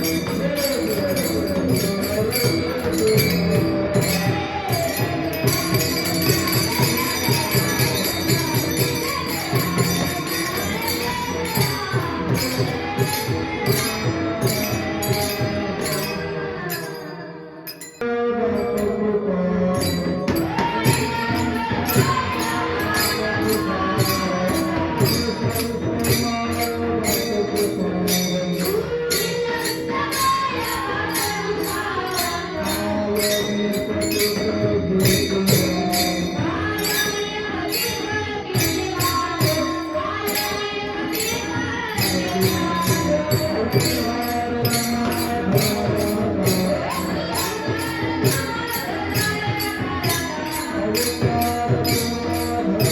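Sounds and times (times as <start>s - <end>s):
hand cymbals struck in rhythm: 0.0s - 52.9s.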